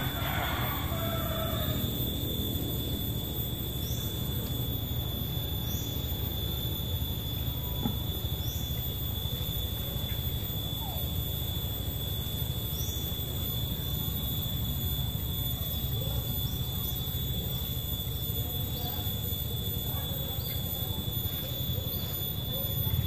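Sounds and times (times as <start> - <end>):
high-pitched whine: 0.0 - 23.0.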